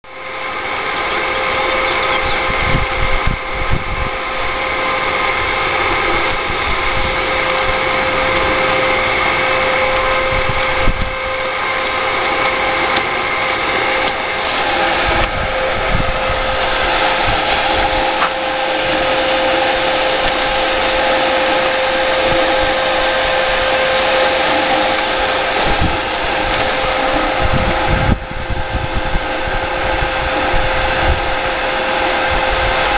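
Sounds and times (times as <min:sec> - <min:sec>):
blower fan motor hum and whine: 0:00.0 - 0:32.9.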